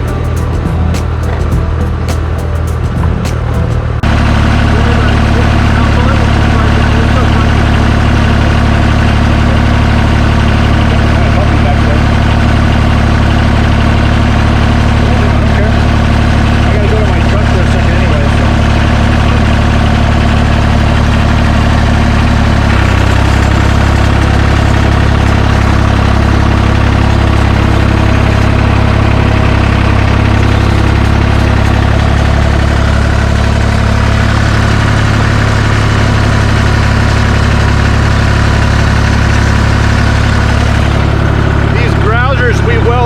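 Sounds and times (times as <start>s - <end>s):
bulldozer engine running: 0.0s - 43.0s.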